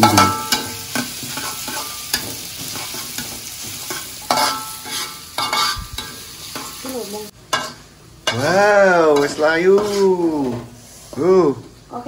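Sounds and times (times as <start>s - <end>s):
utensil scraping a pan: 0.0s - 6.8s, 7.5s - 11.3s
food sizzling in a pan: 0.0s - 12.0s.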